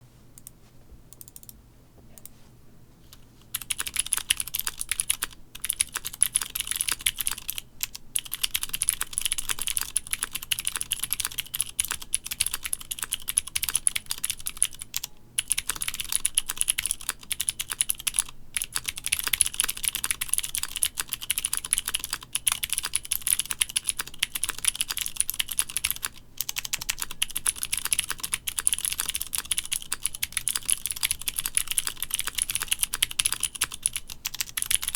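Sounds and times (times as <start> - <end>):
fast typing on mechanical keyboard: 3.5 - 34.9.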